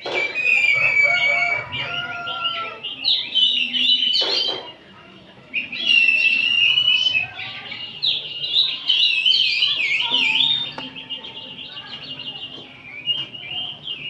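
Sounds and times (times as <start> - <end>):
birds whistling songs: 0.0 - 14.0.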